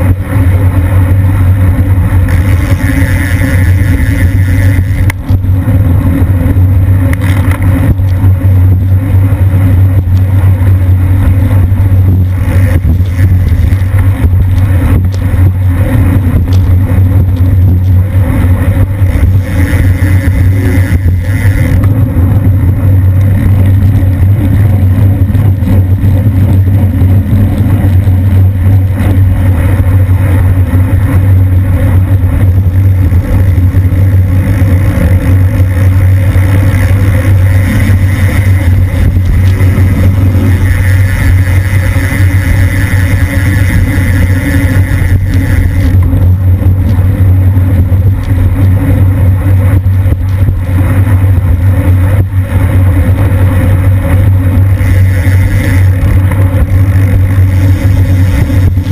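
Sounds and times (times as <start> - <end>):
wind rumbling on microphone: 0.0 - 58.9.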